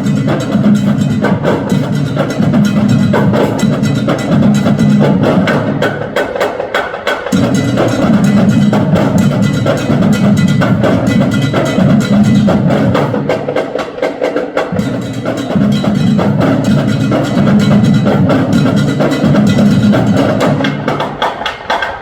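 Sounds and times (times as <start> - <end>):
bass drums: 0.0 - 6.0, 7.3 - 13.4, 14.7 - 21.1
snare and tenor drums: 0.0 - 22.0.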